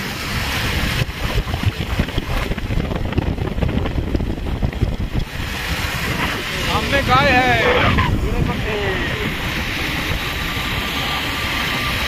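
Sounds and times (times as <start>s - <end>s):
motorcycle engine and road noise: 0.0s - 12.0s
wind buffeting microphone: 0.0s - 12.0s.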